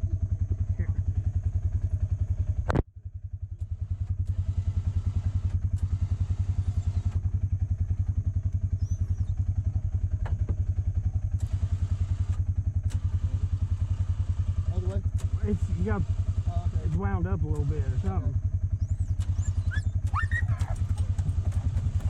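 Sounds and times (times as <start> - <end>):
small engine idling: 0.0 - 22.0.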